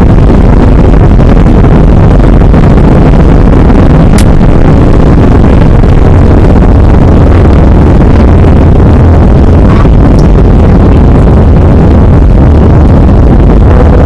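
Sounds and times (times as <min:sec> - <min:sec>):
jet engine and runway rumble: 0:00.0 - 0:14.0.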